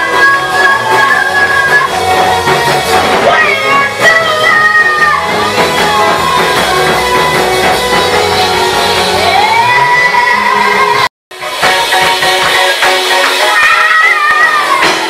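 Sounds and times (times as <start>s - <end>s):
drum kit: 0.0s - 15.0s
guitar: 0.0s - 15.0s.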